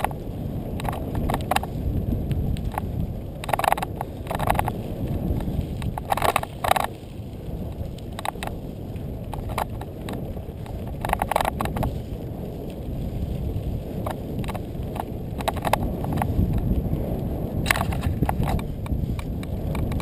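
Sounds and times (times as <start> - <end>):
bike rattling over rocks: 0.0 - 20.0
bike tyres rumbling on dirt trail: 0.0 - 20.0
wind on microphone: 0.0 - 20.0.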